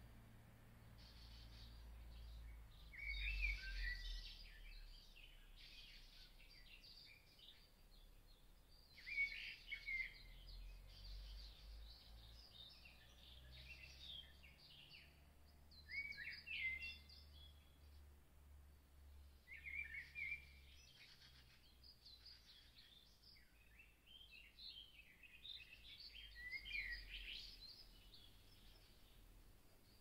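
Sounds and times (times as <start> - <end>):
faint bird chirps and twitters: 0.0 - 30.0.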